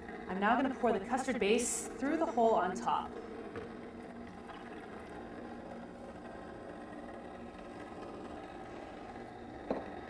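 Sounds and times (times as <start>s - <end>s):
ice cream maker motor humming: 0.0s - 10.0s.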